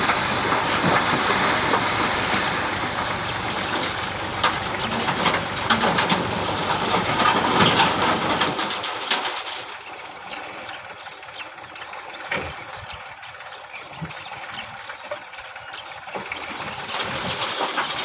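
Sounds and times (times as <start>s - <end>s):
sharp clicks and clatters: 0.0s - 18.0s
tractor engine idling: 0.0s - 18.0s.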